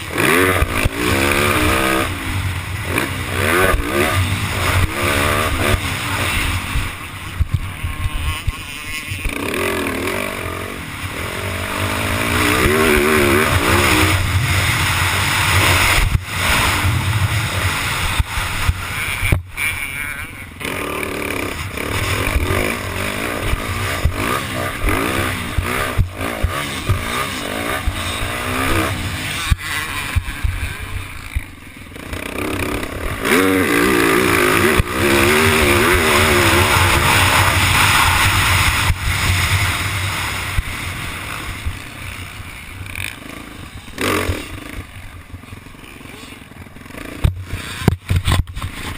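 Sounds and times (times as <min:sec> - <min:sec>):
motocross bike engine revving: 0:00.0 - 0:48.9.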